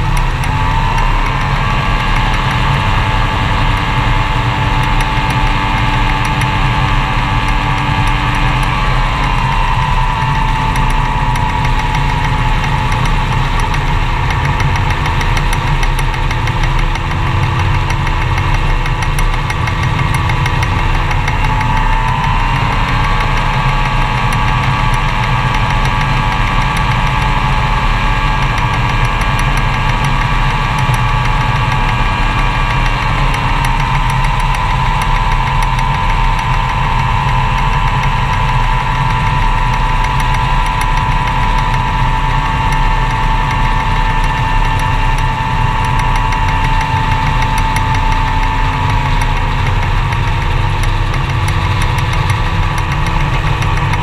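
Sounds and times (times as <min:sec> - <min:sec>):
gyroplane engine and propeller: 0:00.0 - 0:54.0.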